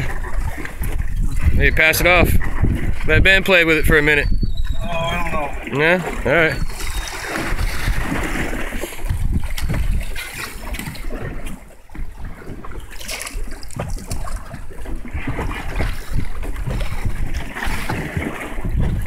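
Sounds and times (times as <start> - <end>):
water splashing against hull: 0.0 - 19.0
wind buffeting microphone: 0.0 - 19.0.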